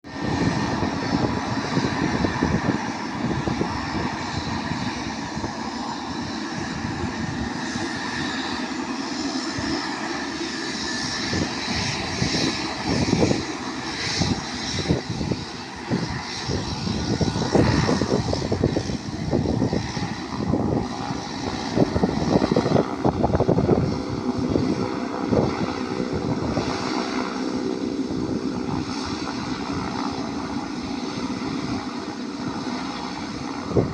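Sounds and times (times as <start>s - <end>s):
turboprop engines running: 0.0s - 33.9s
gusty rushing noise: 0.1s - 8.3s, 10.4s - 32.6s, 33.2s - 33.9s.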